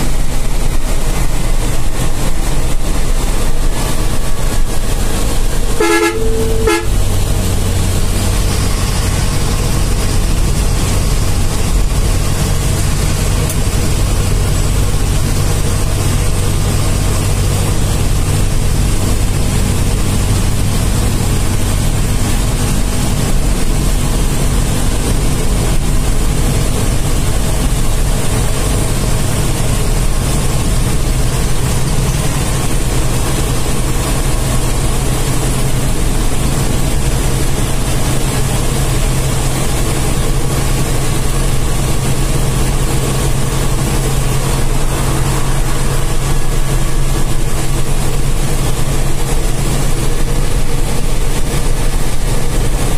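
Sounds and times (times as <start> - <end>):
bus diesel engine running: 0.0 - 52.9
road and tyre noise: 0.0 - 52.9.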